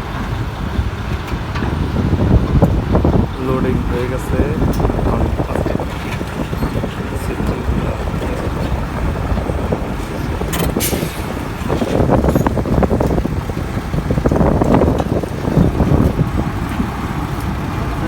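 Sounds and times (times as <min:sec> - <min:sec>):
diesel machinery rumbling: 0:00.0 - 0:18.0
wind buffeting microphone: 0:00.0 - 0:18.0.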